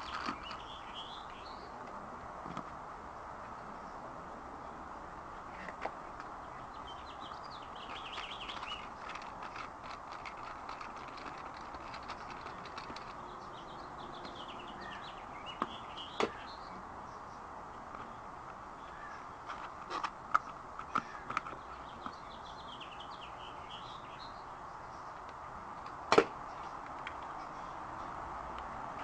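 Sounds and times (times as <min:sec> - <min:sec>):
birds chirping: 0:00.0 - 0:29.0
steady background noise: 0:00.0 - 0:29.0.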